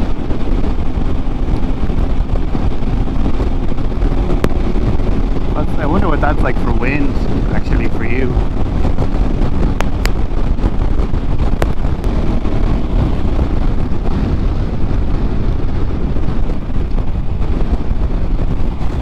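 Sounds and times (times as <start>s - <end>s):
motorcycle engine: 0.0s - 19.0s
road noise: 0.0s - 19.0s
wind rushing over microphone: 0.0s - 19.0s.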